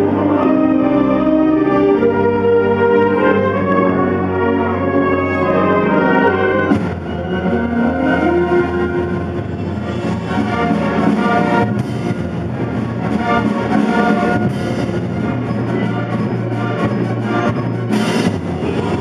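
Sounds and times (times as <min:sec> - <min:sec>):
wind ensemble playing: 0:00.0 - 0:19.0.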